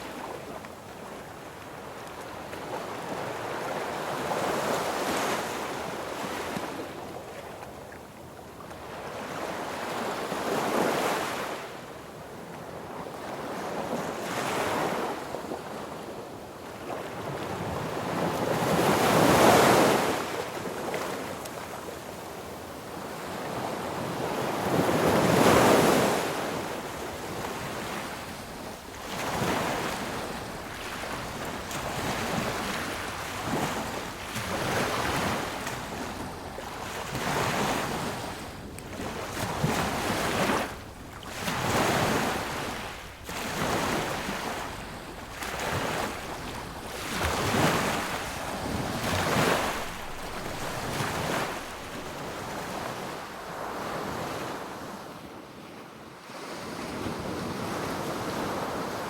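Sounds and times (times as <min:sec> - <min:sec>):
sea waves breaking on beach: 0:00.0 - 0:07.6, 0:12.8 - 0:55.1.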